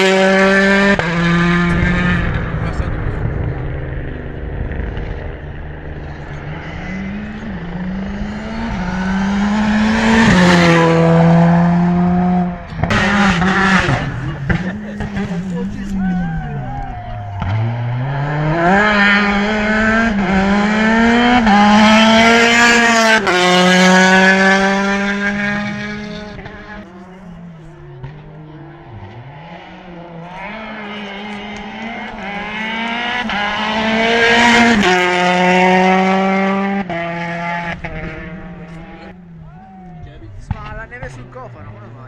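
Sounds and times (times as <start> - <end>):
rally car engine at full throttle: 0.0 - 42.0.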